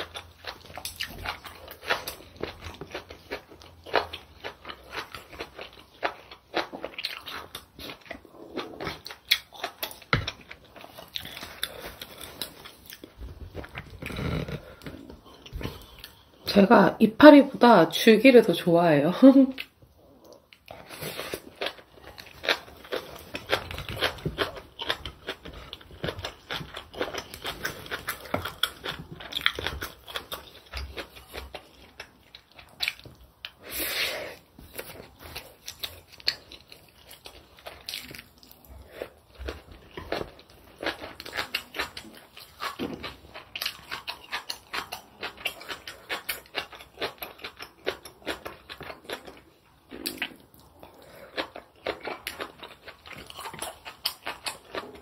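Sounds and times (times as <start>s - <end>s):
wet chewing and crunching: 0.0s - 16.4s, 19.5s - 33.7s, 34.4s - 55.0s.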